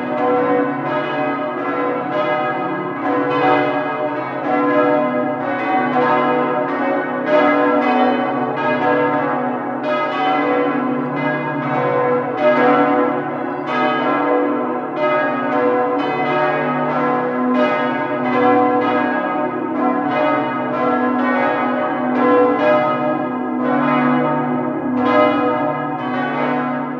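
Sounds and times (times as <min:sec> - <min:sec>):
church bells pealing: 0:00.0 - 0:26.9.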